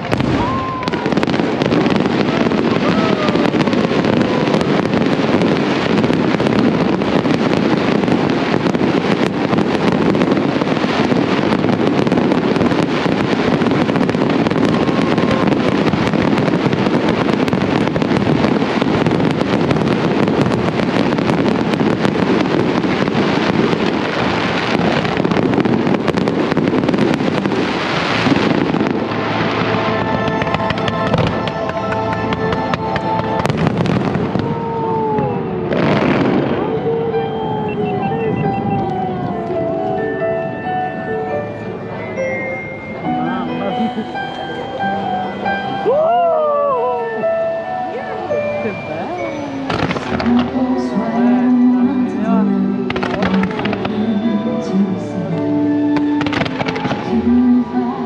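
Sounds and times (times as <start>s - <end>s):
fireworks bursting and crackling: 0.0s - 41.0s, 41.6s - 58.0s.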